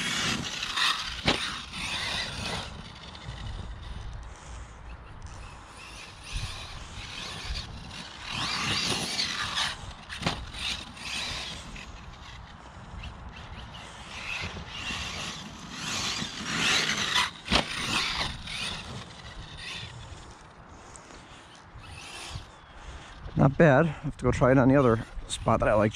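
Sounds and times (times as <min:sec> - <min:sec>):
electric motor whining: 0:00.0 - 0:23.6.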